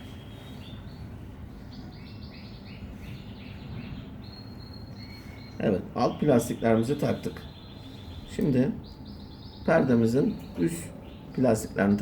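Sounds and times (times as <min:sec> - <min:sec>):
bird chirping: 0:00.0 - 0:12.0
steady low background noise: 0:00.0 - 0:12.0.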